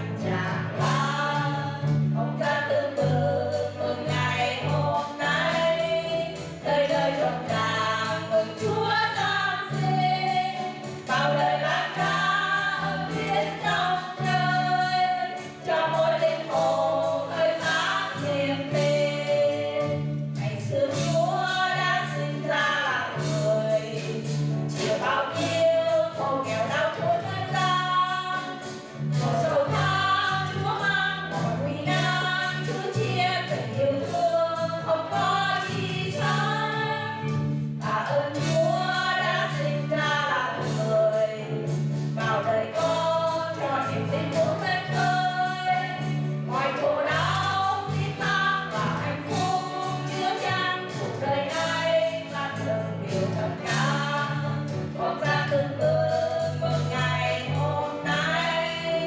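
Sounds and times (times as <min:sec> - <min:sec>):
women singing hymn in harmony: 0:00.0 - 0:59.0.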